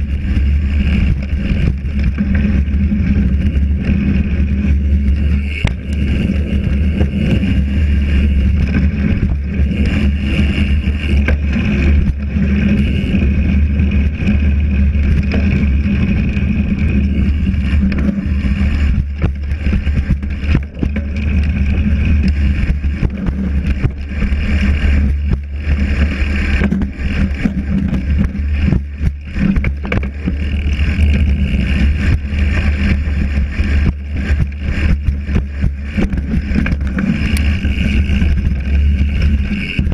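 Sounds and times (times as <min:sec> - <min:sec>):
bike knocks and rattles: 0:00.0 - 0:39.9
wind and tyre rumble: 0:00.0 - 0:39.9.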